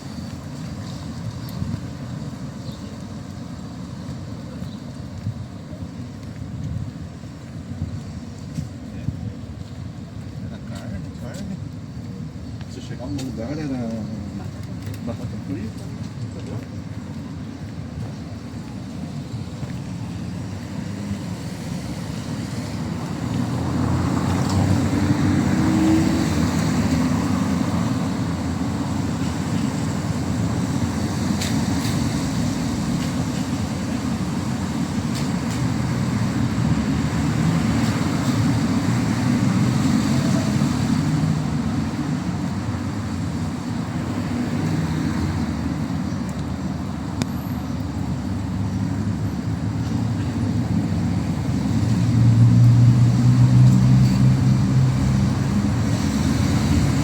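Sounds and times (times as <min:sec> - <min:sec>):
passing cars rumbling: 0:06.8 - 0:57.0.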